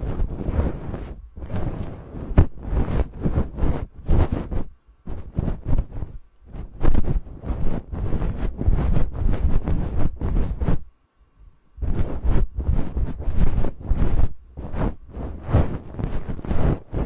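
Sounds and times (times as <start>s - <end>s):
brush rubbing over microphone: 0.0s - 10.9s, 11.8s - 17.0s.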